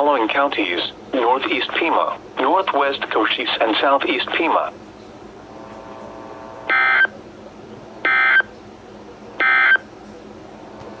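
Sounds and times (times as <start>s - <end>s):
faint broadcast hum: 0.0s - 11.0s.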